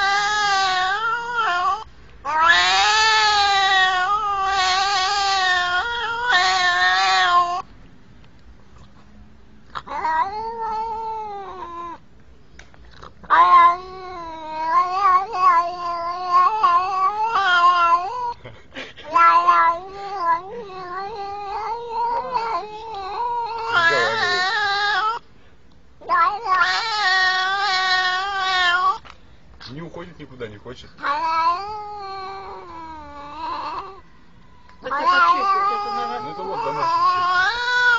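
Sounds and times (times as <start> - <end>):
cat meowing: 0.0 - 7.7, 9.7 - 12.0, 13.2 - 18.4, 19.0 - 25.2, 26.0 - 29.1, 31.0 - 37.9.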